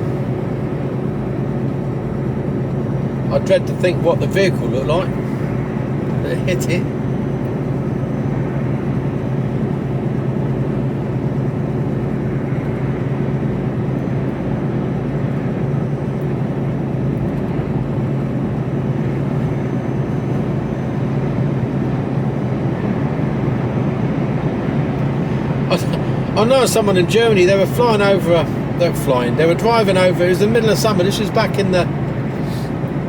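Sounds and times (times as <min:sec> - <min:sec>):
road rumble: 0:00.0 - 0:33.0
steady low hum: 0:00.0 - 0:33.0
truck engine drone: 0:00.0 - 0:33.0.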